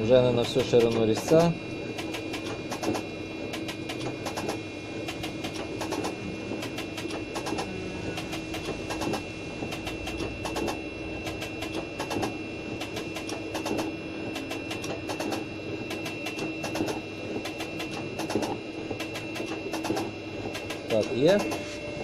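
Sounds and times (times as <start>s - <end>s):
milling machine humming: 0.0s - 22.0s.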